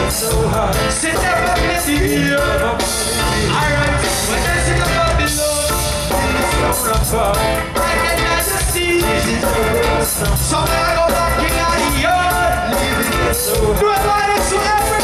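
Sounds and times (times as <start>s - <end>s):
person singing into microphone: 0.0s - 15.0s
reggae band playing: 0.0s - 15.0s.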